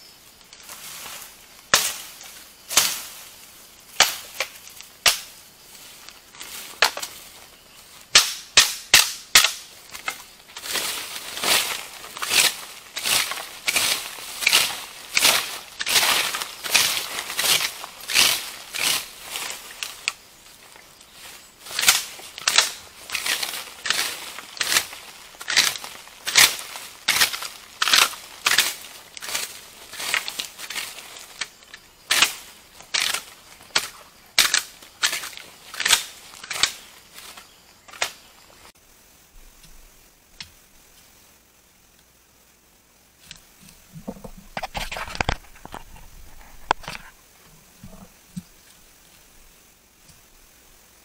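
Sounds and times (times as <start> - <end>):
leaves swept with a stick: 0.0 - 42.3.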